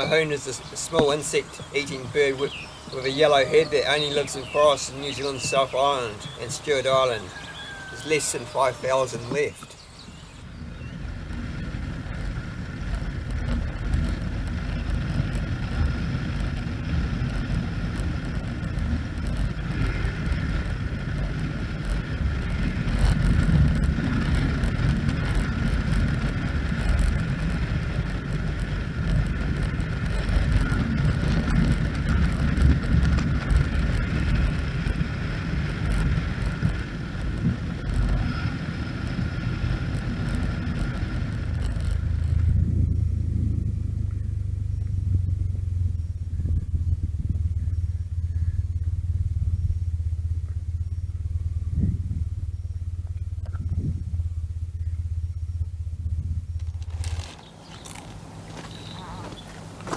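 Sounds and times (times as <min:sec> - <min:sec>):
motorcycle engine running: 0:00.0 - 0:59.9
wind rumbling on microphone: 0:00.0 - 0:59.9.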